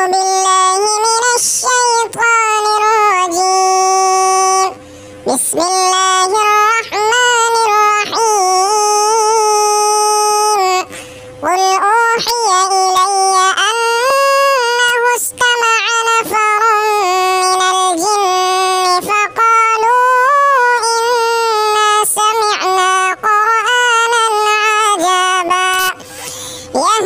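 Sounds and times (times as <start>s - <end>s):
child chanting recitation: 0.0s - 26.0s, 26.7s - 27.0s.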